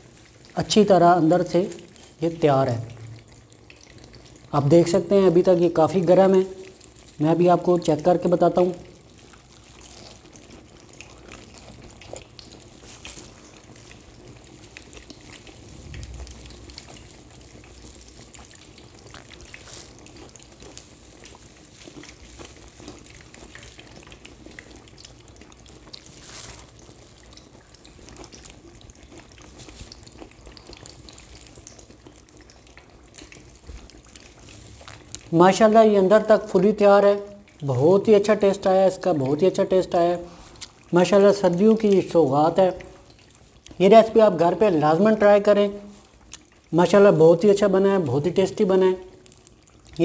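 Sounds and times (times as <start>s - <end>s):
food sizzling in hot oil: 0.0s - 50.0s.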